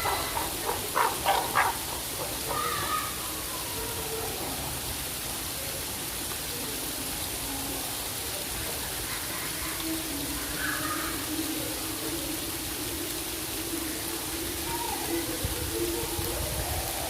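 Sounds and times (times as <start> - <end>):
rushing rain-like noise: 0.0 - 17.0.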